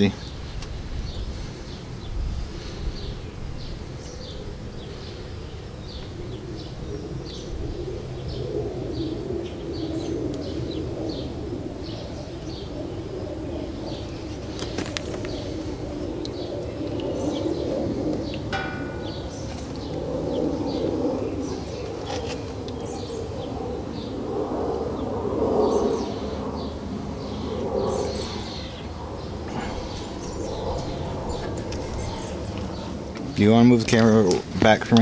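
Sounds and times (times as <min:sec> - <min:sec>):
birds chirping: 0:00.0 - 0:35.0
low wavering sound: 0:01.1 - 0:33.4.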